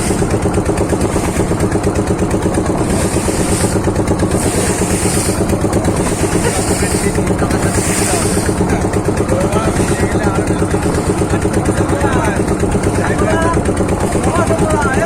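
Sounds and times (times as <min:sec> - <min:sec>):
motorboat engine throbbing: 0:00.0 - 0:15.0.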